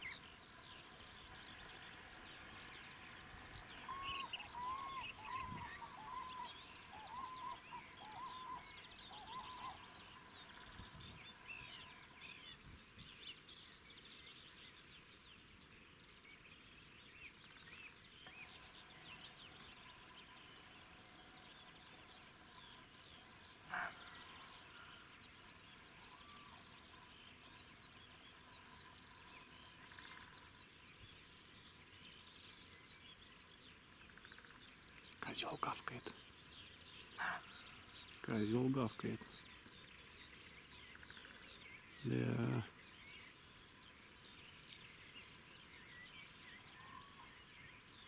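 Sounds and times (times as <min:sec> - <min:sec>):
faint songbirds chirping: 0:00.0 - 0:48.0.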